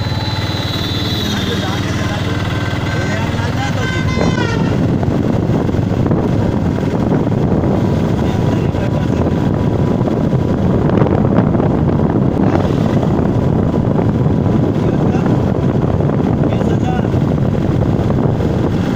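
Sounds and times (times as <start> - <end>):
open vehicle rumbling on road: 0.0 - 18.9
wind buffeting microphone: 0.0 - 18.9.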